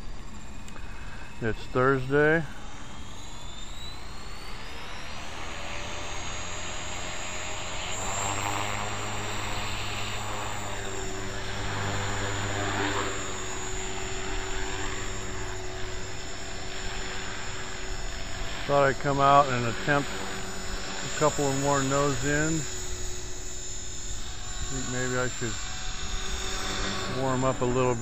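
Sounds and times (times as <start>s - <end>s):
helicopter motor whine: 0.0s - 28.0s
rotor blade hum: 0.0s - 28.0s.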